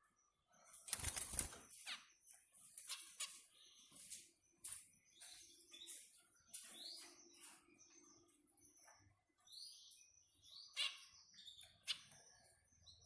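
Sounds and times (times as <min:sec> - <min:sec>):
finches chirping: 0:00.1 - 0:13.0.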